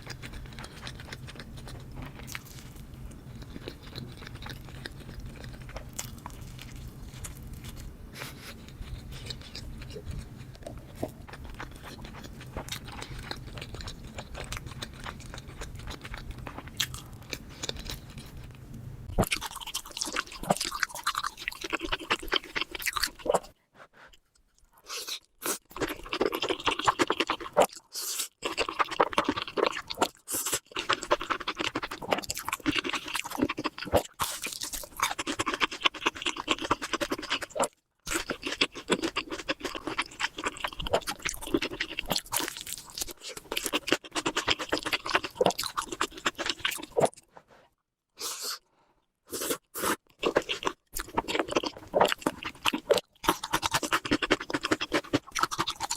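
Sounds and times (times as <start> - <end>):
chewing and crunching food: 0.0 - 55.9.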